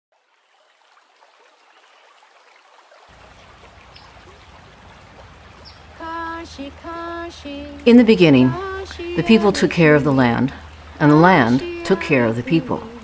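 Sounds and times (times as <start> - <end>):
creek water flowing: 0.1 - 13.0.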